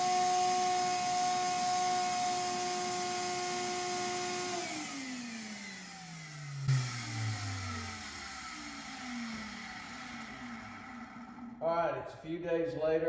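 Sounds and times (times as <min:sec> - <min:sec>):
electric motor winding down: 0:00.0 - 0:11.6.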